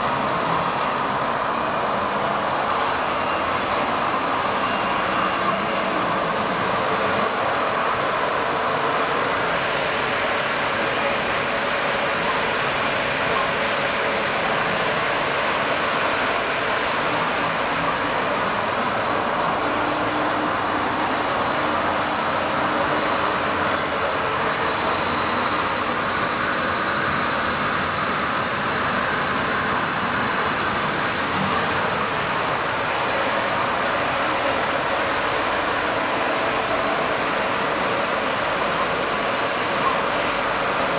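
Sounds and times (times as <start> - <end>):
woodworking machine running: 0.0 - 40.9.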